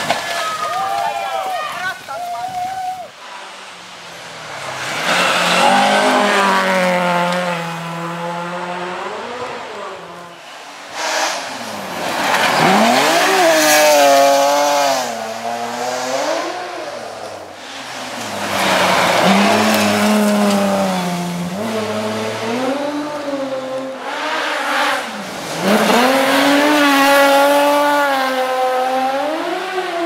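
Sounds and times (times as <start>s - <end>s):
rally car engines at full throttle: 3.1s - 30.0s.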